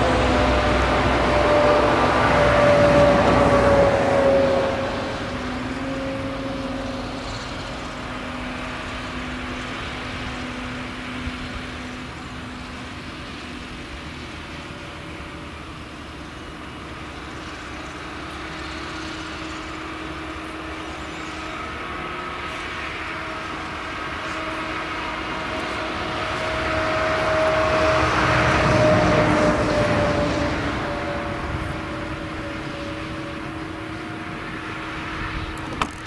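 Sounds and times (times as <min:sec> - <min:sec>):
tractor passing close by: 0:00.0 - 0:36.0.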